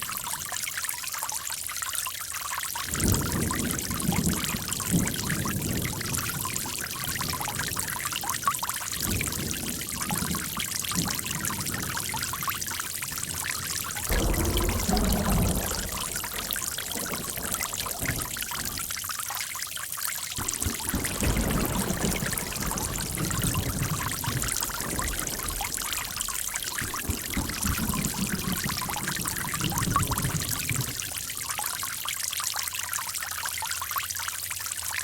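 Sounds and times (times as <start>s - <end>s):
water running and splashing: 0.0s - 33.9s
deep water gurgling: 2.8s - 19.5s, 20.3s - 32.0s.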